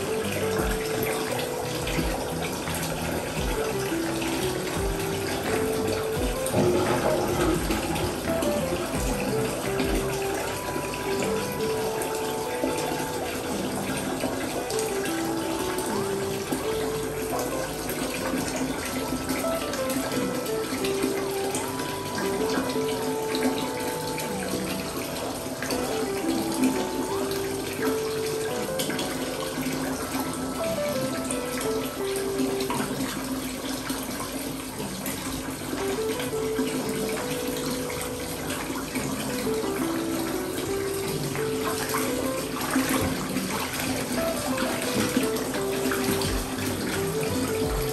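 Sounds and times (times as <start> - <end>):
simple background melody: 0.0 - 47.9
water running into a bath: 0.0 - 47.9.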